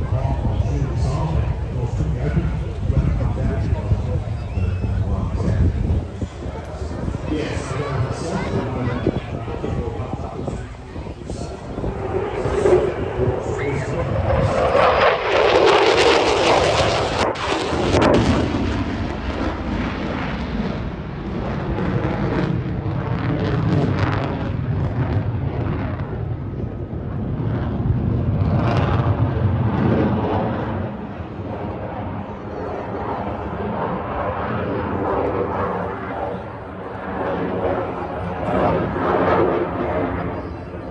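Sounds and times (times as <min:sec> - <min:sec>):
jet flying past: 0:00.0 - 0:40.9.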